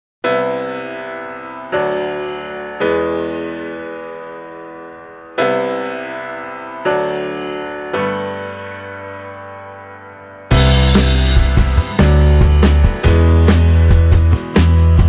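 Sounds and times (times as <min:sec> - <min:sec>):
sustained piano chords: 0:00.2 - 0:15.0.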